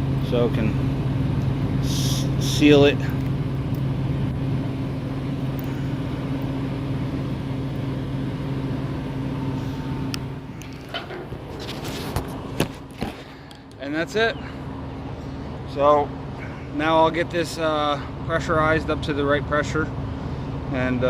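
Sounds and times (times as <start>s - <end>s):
machine humming: 0.0s - 20.8s.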